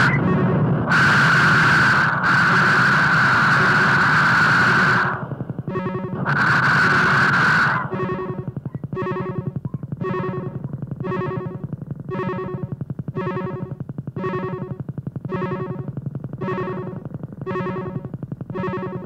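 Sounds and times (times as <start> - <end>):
buzzy synthesizer chord pulsing: 0.0 - 19.0.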